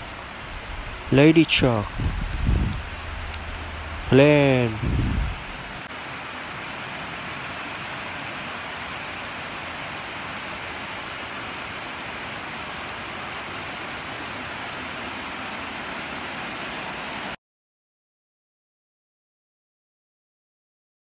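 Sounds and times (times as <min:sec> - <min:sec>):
rain on concrete and puddles: 0:00.0 - 0:17.4.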